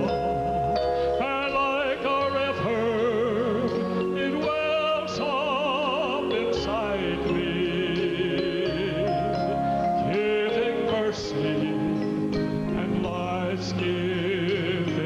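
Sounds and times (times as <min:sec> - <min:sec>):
instrumental accompaniment: 0:00.0 - 0:15.0
man singing with vibrato: 0:00.0 - 0:15.0.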